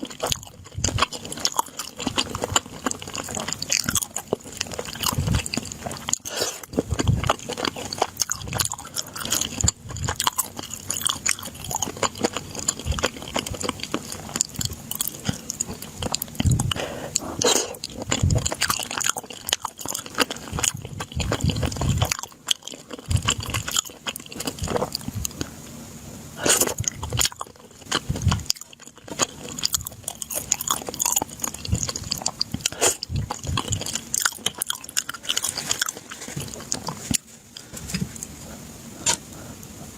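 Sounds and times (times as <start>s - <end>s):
crunchy biting and chewing: 0.0s - 25.6s, 26.3s - 39.5s.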